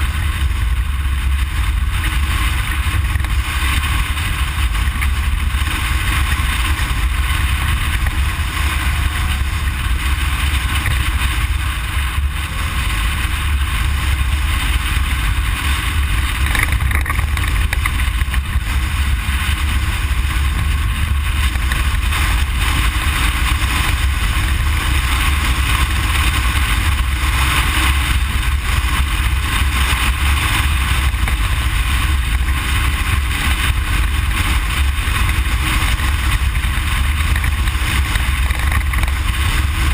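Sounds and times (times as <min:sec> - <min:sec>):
constant rushing noise: 0:00.0 - 0:39.9
vehicle engine and tyres on dirt: 0:00.0 - 0:39.9.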